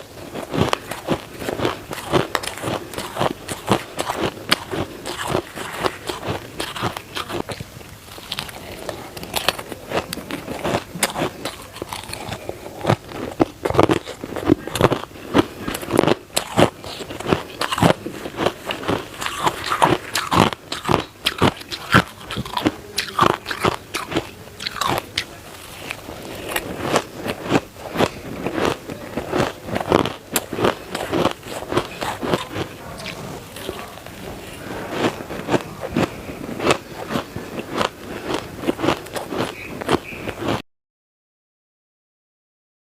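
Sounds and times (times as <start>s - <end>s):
chewing crunchy shaved ice: 0.0s - 40.6s.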